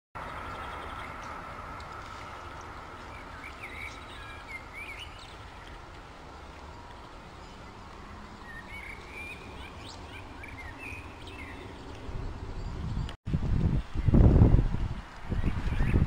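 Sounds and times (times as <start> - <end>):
birds chirping: 0.2 - 13.2, 15.3 - 16.0
outdoor background noise: 0.2 - 16.0.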